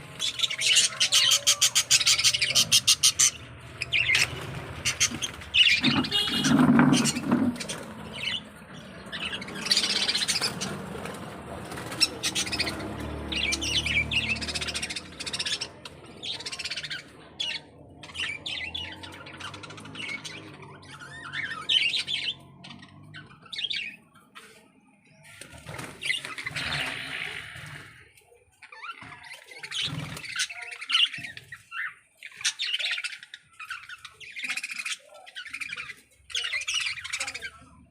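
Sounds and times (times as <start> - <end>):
birds squawking and chirping: 0.0 - 37.9.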